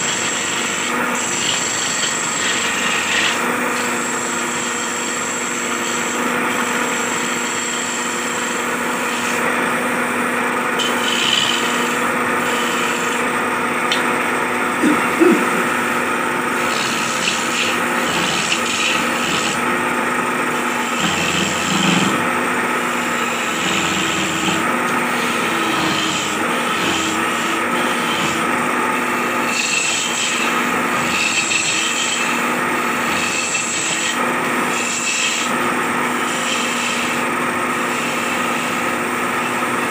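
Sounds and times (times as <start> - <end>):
chisel rasping on spinning wood: 0.0 - 39.9
wood lathe humming: 0.0 - 39.9.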